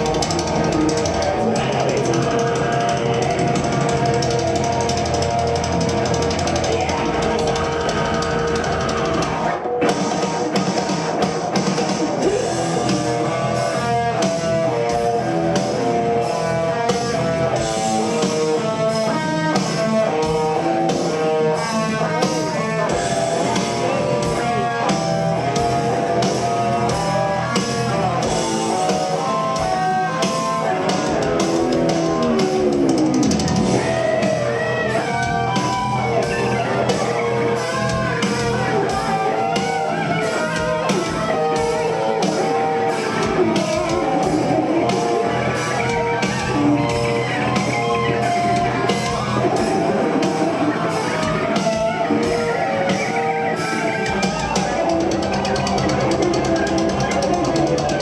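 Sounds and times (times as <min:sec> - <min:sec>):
drums: 0:00.0 - 0:58.0
guitar melody: 0:00.0 - 0:58.0
guitar slide: 0:00.0 - 0:58.0.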